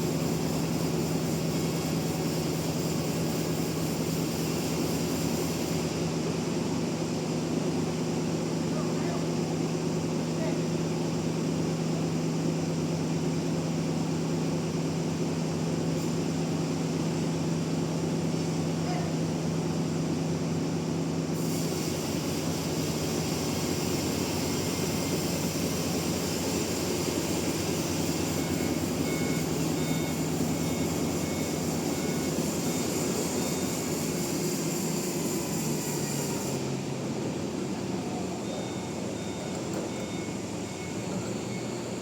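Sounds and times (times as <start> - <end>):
sawmill machinery humming: 0.0 - 42.0.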